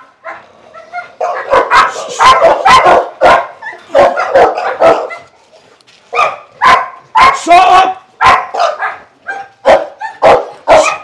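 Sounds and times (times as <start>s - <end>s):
dog barking rapidly: 0.0s - 5.3s, 6.1s - 7.6s, 8.2s - 11.0s.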